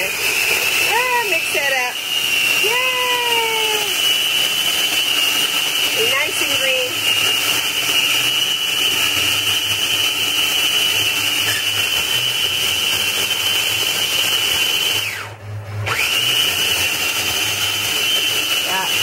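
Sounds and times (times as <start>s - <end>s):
food processor motor whine: 0.0s - 19.0s.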